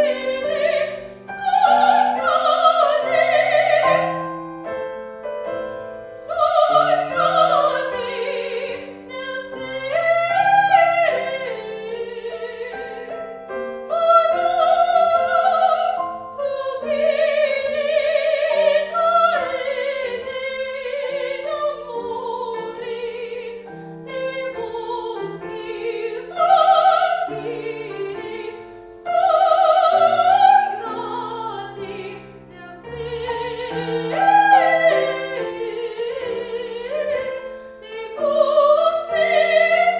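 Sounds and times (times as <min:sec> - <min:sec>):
operatic singing with vibrato: 0:00.0 - 0:04.7, 0:05.7 - 0:39.9
piano accompaniment: 0:00.0 - 0:39.9.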